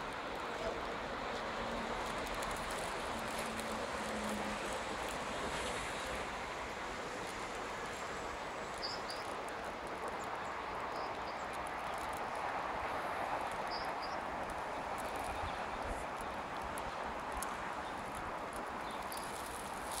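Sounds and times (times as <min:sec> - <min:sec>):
distant city traffic hum: 0:00.0 - 0:20.0.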